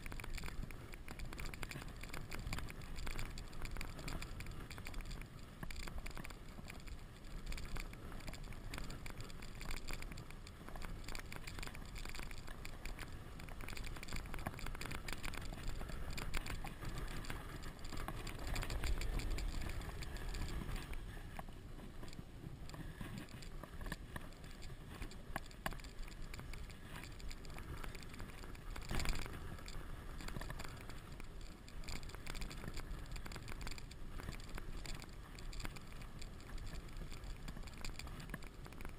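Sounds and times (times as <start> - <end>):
sled knocking and rattling: 0.0 - 38.9
sled runners scraping over snow: 0.0 - 38.9.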